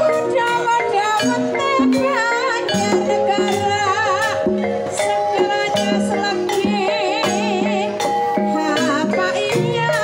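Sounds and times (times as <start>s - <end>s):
hand drums: 0.0s - 10.0s
metallophones struck with mallets: 0.0s - 10.0s
woman singing with vibrato: 0.0s - 10.0s.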